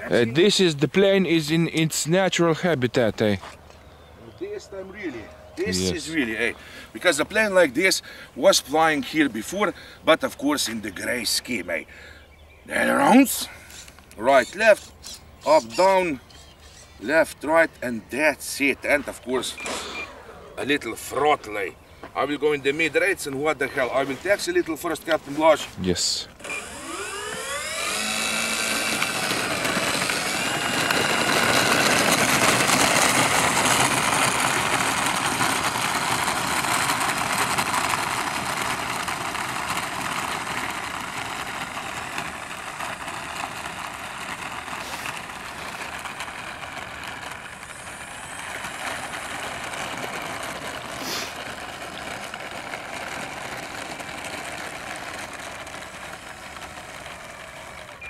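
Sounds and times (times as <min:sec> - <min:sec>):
electric motors and propellers whining: 0:03.6 - 0:58.0.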